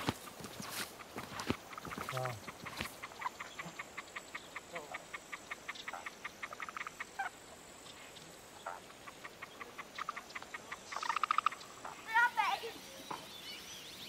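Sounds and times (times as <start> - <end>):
fast clicking animal calls: 0.0 - 7.4, 8.2 - 12.6.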